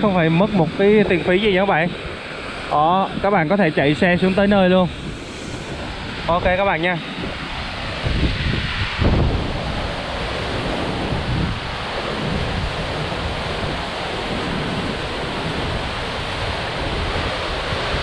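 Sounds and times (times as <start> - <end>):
rush of falling water: 0.0 - 18.0
wind buffeting microphone: 0.0 - 18.0.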